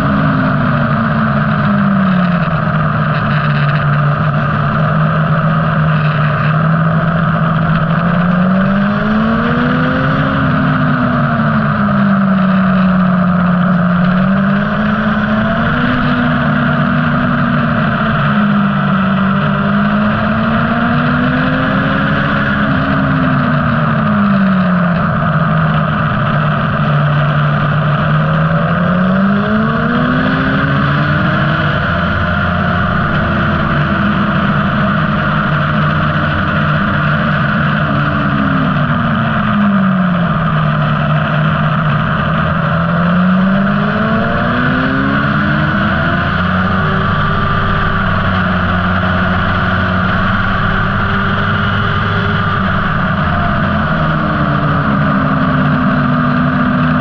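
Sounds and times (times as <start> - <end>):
constant rushing noise: 0.0 - 57.0
motorcycle engine revving: 0.0 - 57.0.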